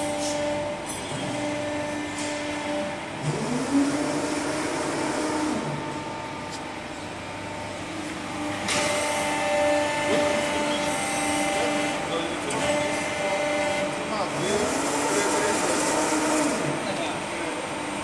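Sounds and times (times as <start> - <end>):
hydraulic pump hum: 0.0 - 18.0.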